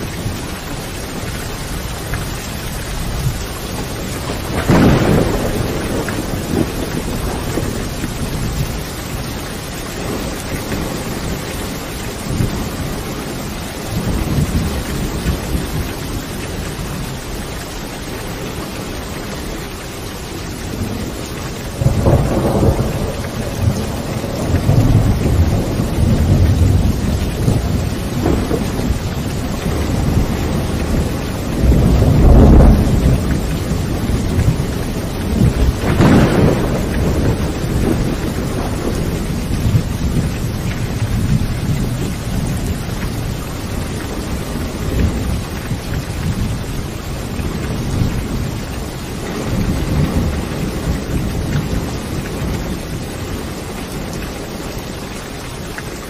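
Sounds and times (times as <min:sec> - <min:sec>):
rolling thunder: 0:00.0 - 0:19.6, 0:20.5 - 0:54.2
steady rain: 0:00.0 - 0:56.0.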